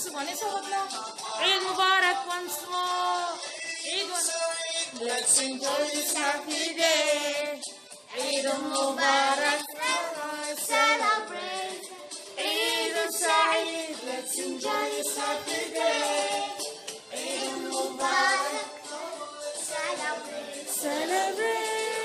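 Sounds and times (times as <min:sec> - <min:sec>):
person singing with vibrato: 0:00.0 - 0:22.0.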